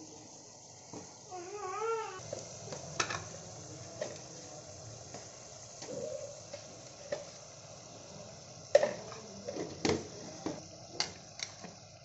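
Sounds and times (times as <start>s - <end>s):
masala sizzling in oil: 0.0s - 12.0s.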